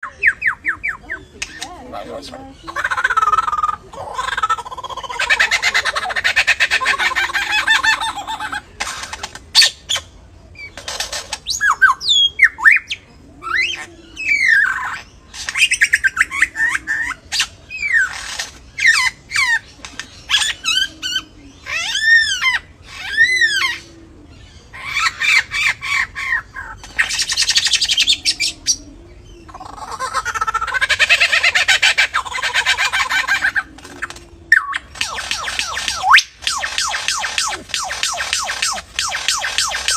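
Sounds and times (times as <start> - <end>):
birds squawking: 0.0 - 39.9
birds whistling: 0.0 - 39.9.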